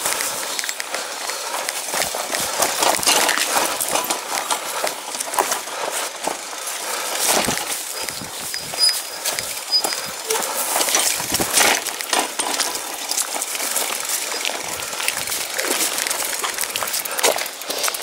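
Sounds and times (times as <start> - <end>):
crunching through undergrowth: 0.0 - 18.0.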